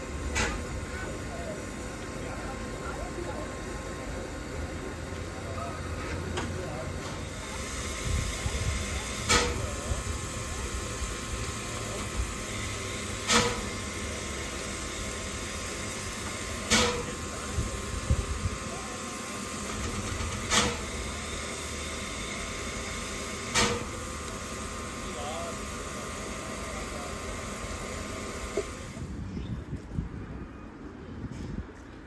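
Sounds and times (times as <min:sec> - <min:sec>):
steam locomotive hissing: 0:00.0 - 0:29.2.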